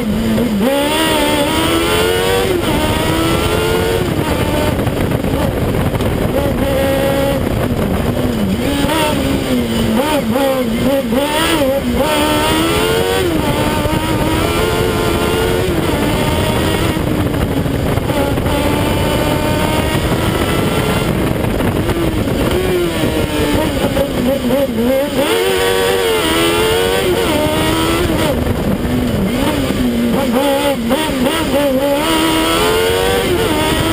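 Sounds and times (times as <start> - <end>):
race car engine revving: 0.0 - 33.9
road and wind noise: 0.0 - 33.9.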